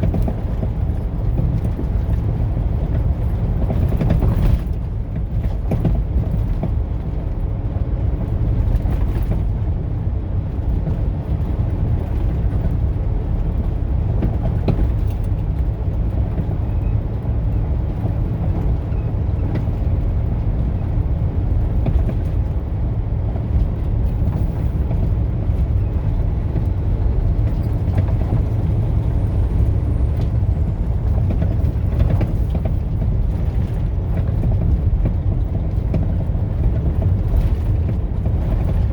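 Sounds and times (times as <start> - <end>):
road and wind noise: 0.0 - 38.9
engine drone: 7.7 - 38.9.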